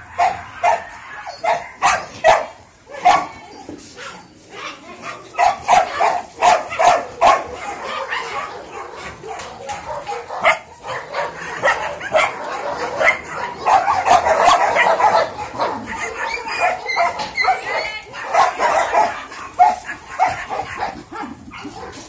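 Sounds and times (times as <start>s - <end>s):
puppies yapping: 0.0s - 22.0s.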